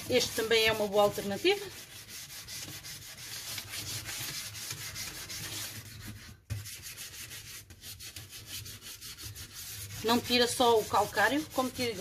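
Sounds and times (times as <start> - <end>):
foil ball scrubbing a steel sink: 0.0 - 12.0.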